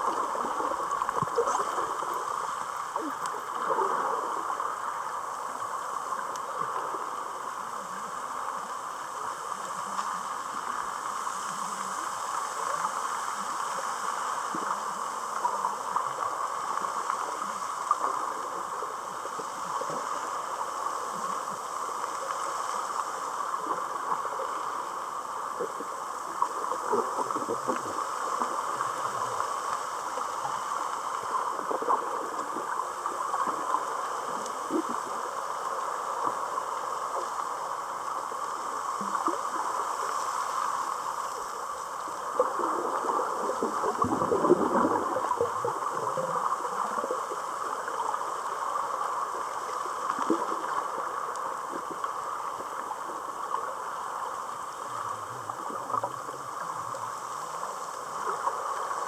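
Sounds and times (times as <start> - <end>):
low underwater rush: 0.0 - 59.0
underwater hiss with crackling: 0.0 - 59.0.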